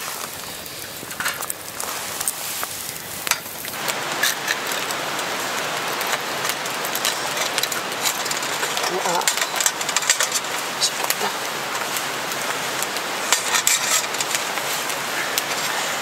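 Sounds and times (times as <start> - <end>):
food sizzling on grill: 0.0 - 16.0
wood fire crackling: 0.0 - 16.0.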